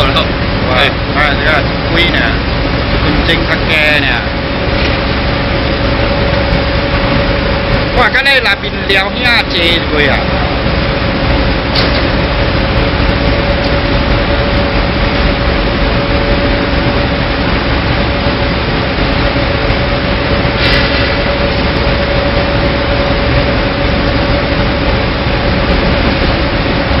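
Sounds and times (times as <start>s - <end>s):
rotary drum dryer running: 0.0s - 27.0s.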